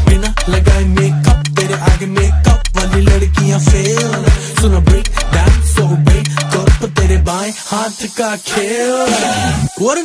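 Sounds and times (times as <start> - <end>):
person singing sliding vocal line: 0.0 - 10.0
pop song with bass beat: 0.0 - 10.0.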